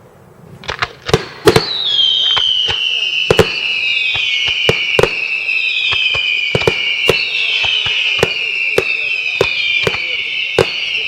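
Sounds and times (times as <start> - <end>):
firework bangs: 0.4 - 11.0
whistling firework shells: 0.7 - 11.0.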